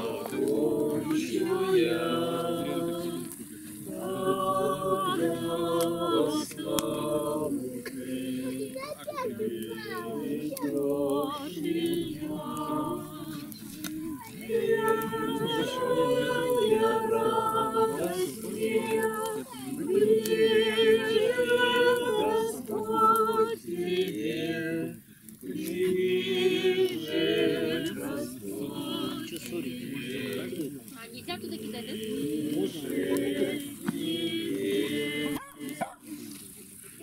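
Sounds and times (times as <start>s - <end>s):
group singing unaccompanied: 0.0s - 37.0s.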